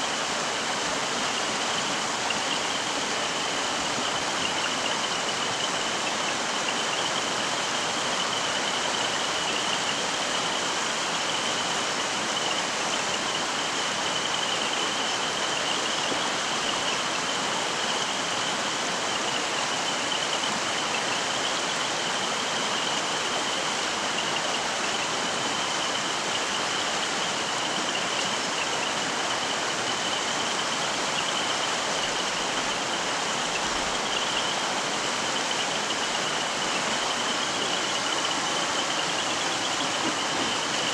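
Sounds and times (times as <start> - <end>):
stream rushing water: 0.0 - 40.9.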